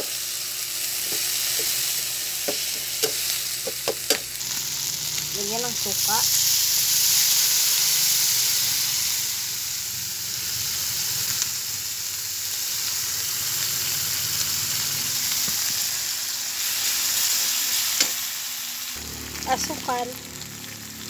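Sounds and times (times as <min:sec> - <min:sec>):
shrimp paste sizzling in a wok: 0:00.0 - 0:21.0.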